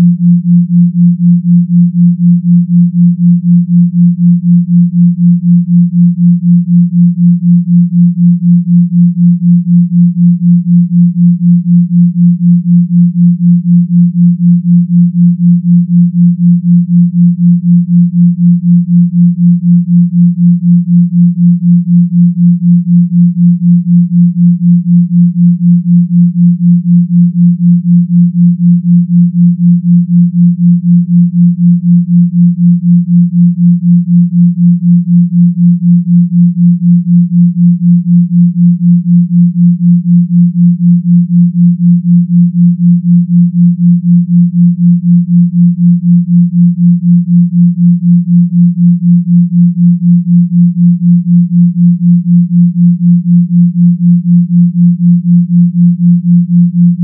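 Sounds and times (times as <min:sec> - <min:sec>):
low pulsing sine tone: 0:00.0 - 0:57.0.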